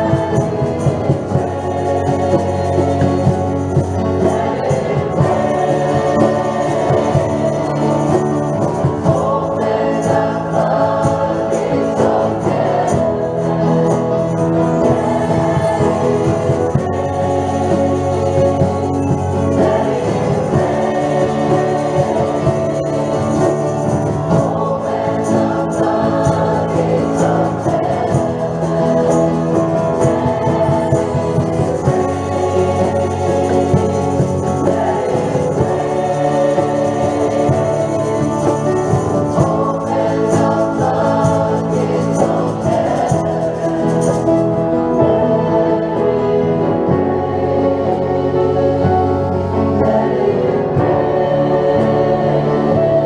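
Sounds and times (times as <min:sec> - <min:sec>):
church choir singing: 0:00.0 - 0:53.0
instrumental accompaniment: 0:00.0 - 0:53.0.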